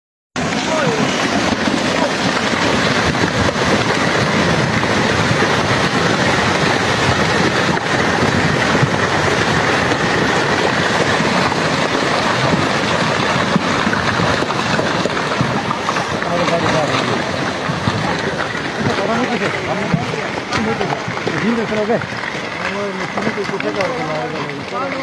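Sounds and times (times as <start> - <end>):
rocks and earth sliding: 0.4 - 25.0.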